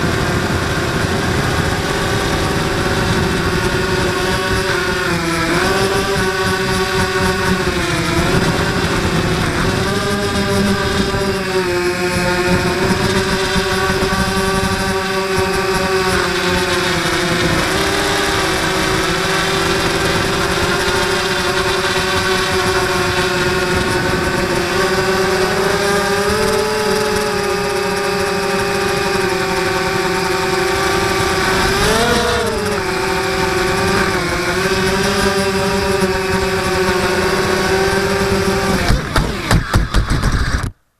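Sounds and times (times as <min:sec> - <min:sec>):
quadcopter motors whining: 0:00.0 - 0:40.7.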